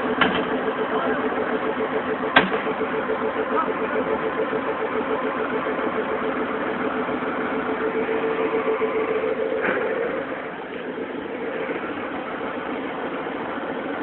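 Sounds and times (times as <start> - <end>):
diesel engine running steadily: 0.0 - 14.0.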